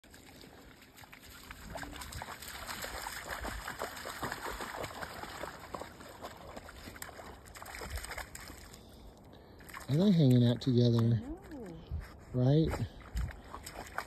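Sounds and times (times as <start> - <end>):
dogs splashing through water: 0.0 - 11.1, 12.8 - 14.0.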